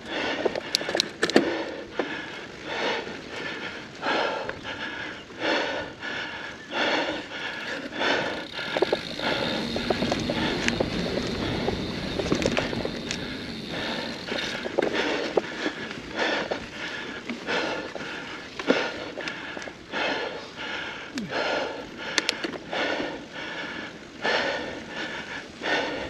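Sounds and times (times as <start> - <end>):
bike clicking and rattling: 0.0 - 4.8, 6.8 - 20.2, 21.1 - 26.0
bike riding rush: 0.0 - 26.0
person breathing hard: 0.0 - 26.0.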